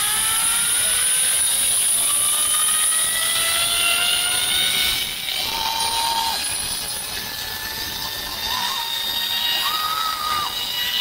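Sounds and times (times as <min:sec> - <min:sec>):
pulley wheels whining on cable: 0:00.0 - 0:11.0.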